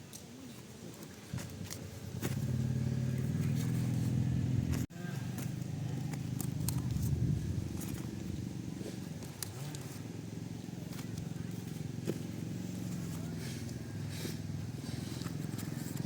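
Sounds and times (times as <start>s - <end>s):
small engine humming: 1.2s - 16.0s.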